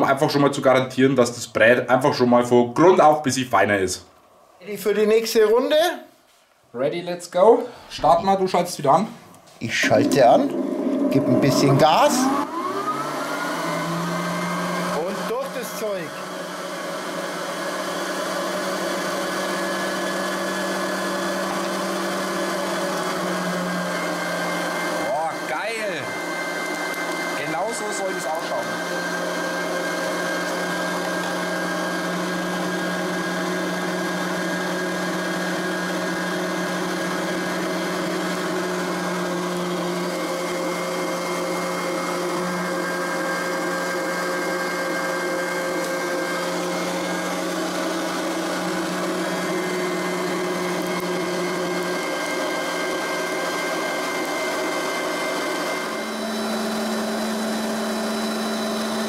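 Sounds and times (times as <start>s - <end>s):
meat grinder motor humming: 9.9s - 59.0s.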